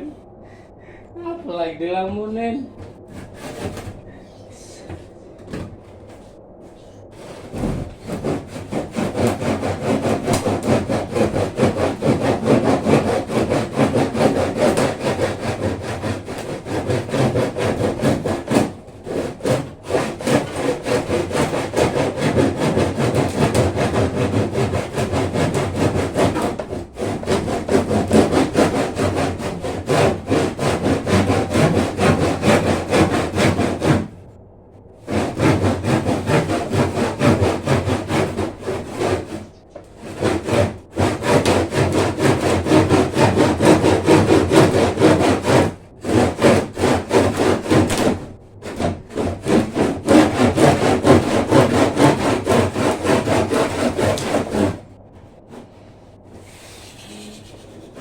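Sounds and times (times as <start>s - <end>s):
hand saw cutting wood: 3.1s - 4.0s, 7.1s - 34.2s, 35.0s - 54.9s, 56.4s - 58.0s.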